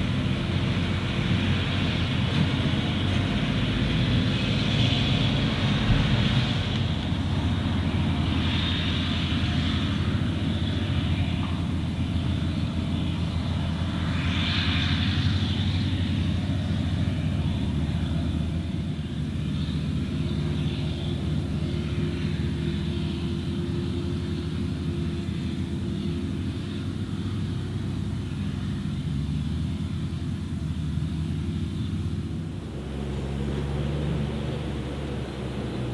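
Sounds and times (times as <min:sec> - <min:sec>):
forage harvester engine under load: 0:00.0 - 0:35.9.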